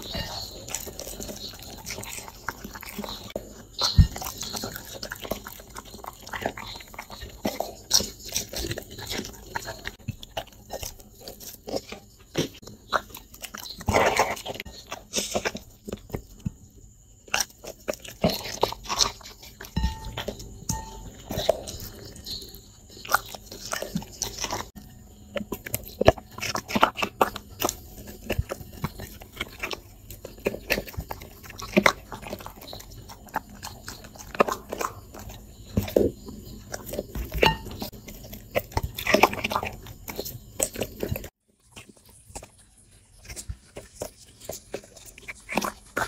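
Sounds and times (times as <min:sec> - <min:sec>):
dog crunching food: 0:00.0 - 0:16.4, 0:17.3 - 0:46.0
dog chewing: 0:00.0 - 0:16.6, 0:17.3 - 0:46.0.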